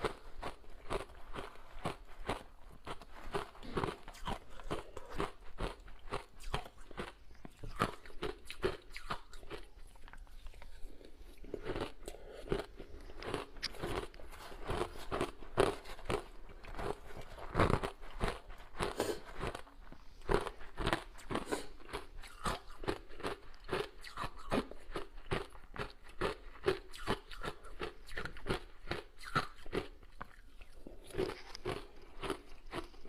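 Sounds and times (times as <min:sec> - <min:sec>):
ice crunching and chewing: 0:00.0 - 0:33.0.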